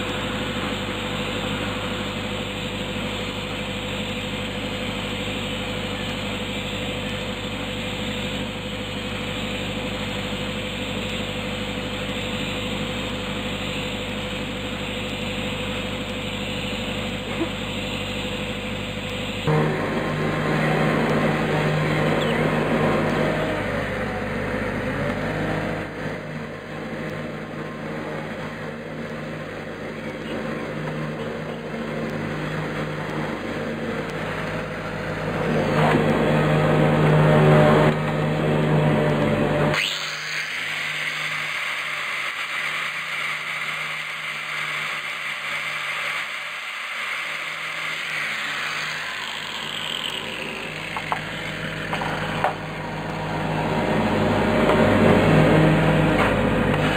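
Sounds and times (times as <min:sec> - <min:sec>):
high machine hiss: 0:00.0 - 0:37.6, 0:39.7 - 0:54.5
engine low hum: 0:00.0 - 0:56.9.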